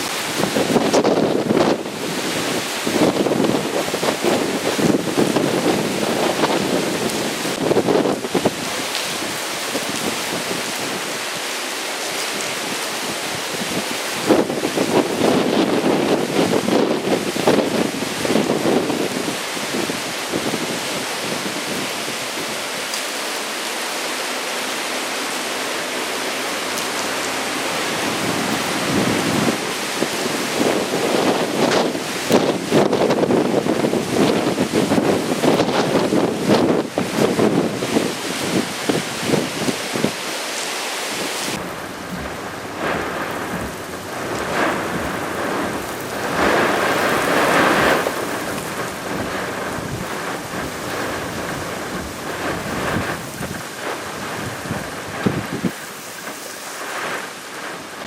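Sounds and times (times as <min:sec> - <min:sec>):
wind buffeting microphone: 0:00.0 - 0:11.5, 0:12.2 - 0:23.9, 0:24.7 - 0:40.4, 0:41.1 - 0:58.0
heavy rain hissing: 0:00.0 - 0:58.0.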